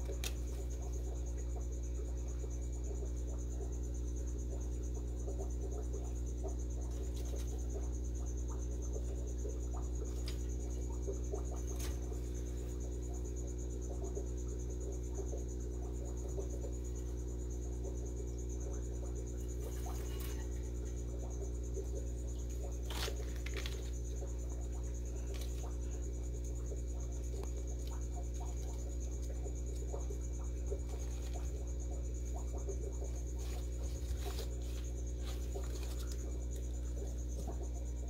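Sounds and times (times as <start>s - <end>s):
cricket trilling: 0.0s - 38.0s
low electrical hum: 0.0s - 38.0s.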